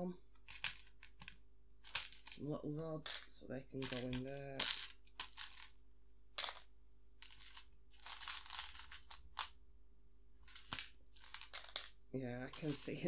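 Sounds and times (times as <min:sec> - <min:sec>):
plastic pieces clicking and rattling: 0:00.4 - 0:02.4, 0:03.0 - 0:05.8, 0:06.4 - 0:09.6, 0:10.4 - 0:13.0.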